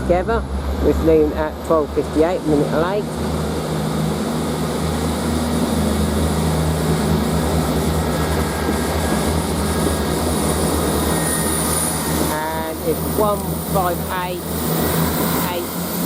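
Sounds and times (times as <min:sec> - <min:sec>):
diesel train engine drone: 0:00.0 - 0:16.0.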